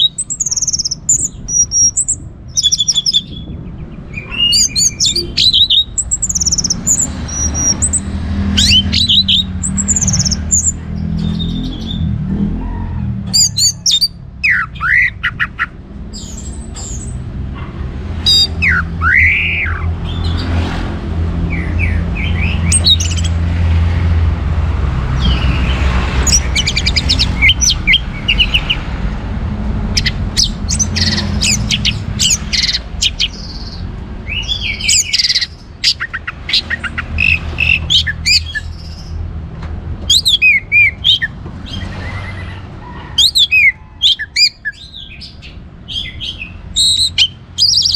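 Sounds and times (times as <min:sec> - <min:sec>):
thrush singing: 0:00.0 - 0:12.6, 0:13.3 - 0:39.2.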